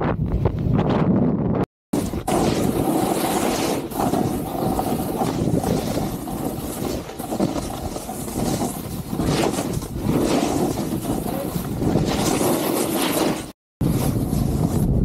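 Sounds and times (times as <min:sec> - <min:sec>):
wind on microphone: 0:00.0 - 0:12.6, 0:13.8 - 0:15.0
snowboard scraping snow: 0:02.0 - 0:15.0.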